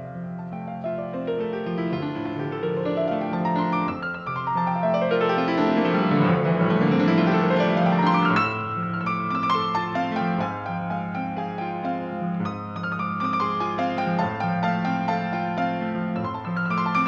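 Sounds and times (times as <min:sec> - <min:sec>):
grand piano fast runs: 0:00.0 - 0:17.0.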